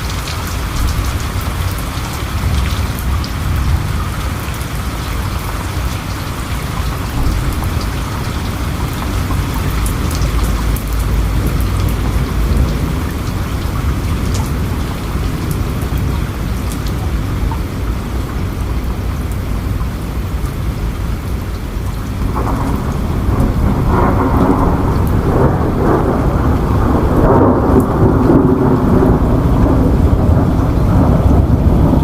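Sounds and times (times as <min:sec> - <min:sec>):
heavy rain: 0:00.0 - 0:32.0
raindrops ticking: 0:00.0 - 0:32.0.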